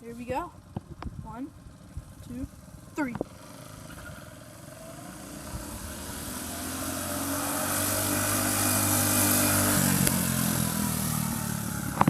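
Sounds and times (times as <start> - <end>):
small engine running hard: 1.6 - 12.0.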